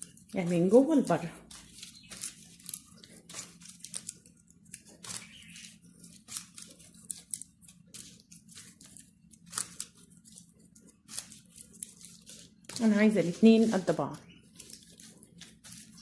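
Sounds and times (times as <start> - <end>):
hands rubbing dough: 0.0 - 16.0.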